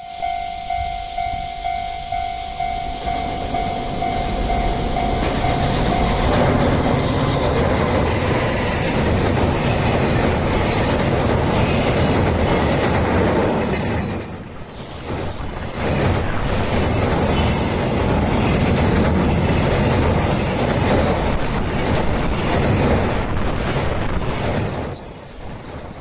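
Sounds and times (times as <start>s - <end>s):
freight train passing: 0.0s - 26.0s.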